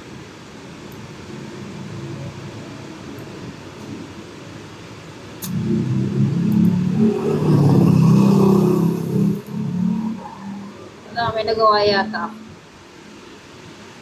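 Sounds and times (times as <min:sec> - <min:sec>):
vehicle engine revving: 0:00.7 - 0:12.6.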